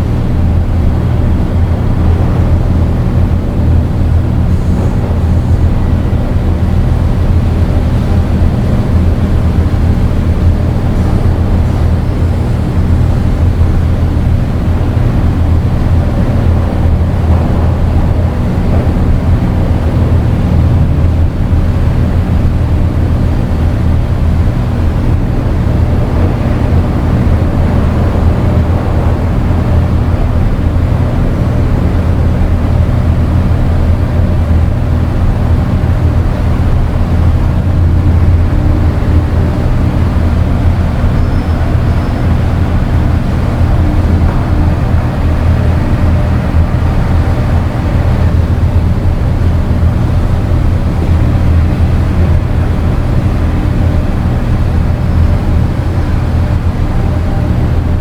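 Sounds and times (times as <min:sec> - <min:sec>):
dark ambient synthesizer drone: 0:00.0 - 0:58.0.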